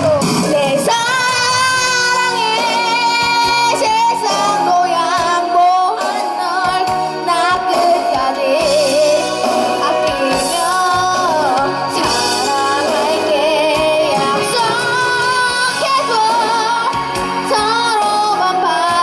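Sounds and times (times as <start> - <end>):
child singing into microphone: 0.0 - 19.0
pop backing track with beat: 0.0 - 19.0.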